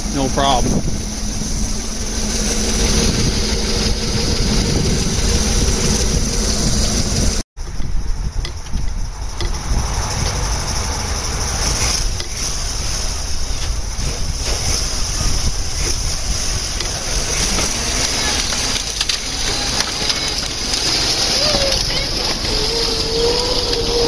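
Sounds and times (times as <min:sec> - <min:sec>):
vehicle rumbling and crunching: 0:00.0 - 0:24.0.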